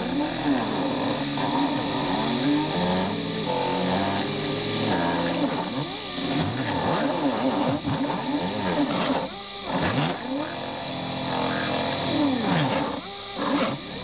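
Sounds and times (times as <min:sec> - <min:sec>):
milling motor running: 0:00.0 - 0:14.0
stepper motors whining: 0:00.0 - 0:14.0.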